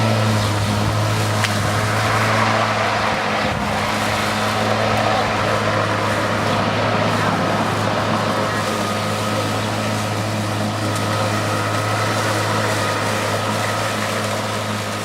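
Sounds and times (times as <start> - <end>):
electric garden tool motor hum: 0.0 - 15.0.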